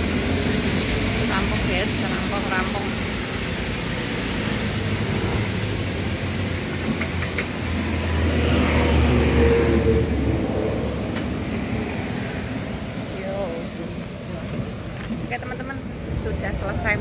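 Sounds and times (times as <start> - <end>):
vehicle engine rumble passing: 0.0 - 17.0.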